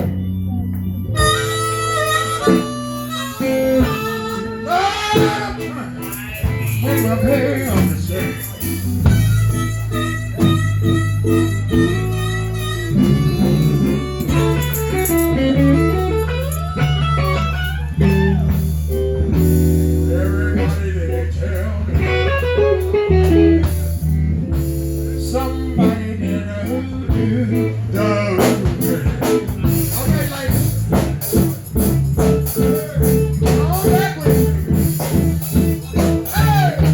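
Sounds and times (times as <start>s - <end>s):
blues band playing: 0.0s - 36.9s
electric guitar lead with bending notes: 0.0s - 36.9s.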